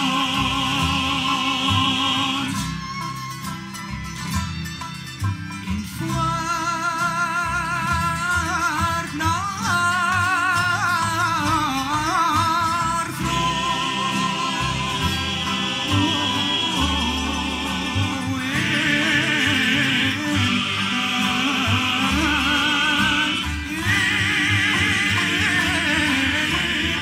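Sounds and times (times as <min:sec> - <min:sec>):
man singing: 0:00.0 - 0:02.7, 0:05.8 - 0:27.0
bowed strings: 0:00.0 - 0:27.0
double bass: 0:00.0 - 0:27.0
guitars: 0:00.0 - 0:27.0.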